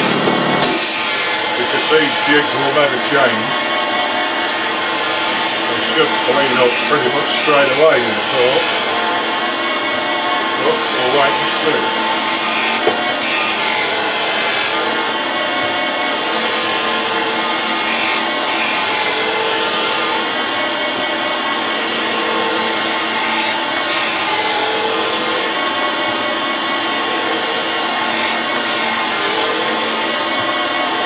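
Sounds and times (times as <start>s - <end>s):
grinder wheel grinding metal: 0.0s - 31.0s.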